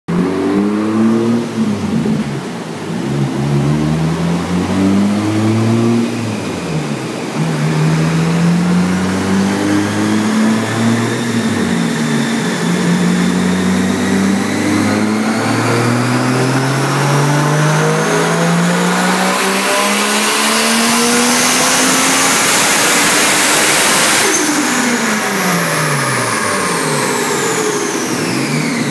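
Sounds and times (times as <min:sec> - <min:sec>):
car engine revving on dyno: 0:00.1 - 0:28.9.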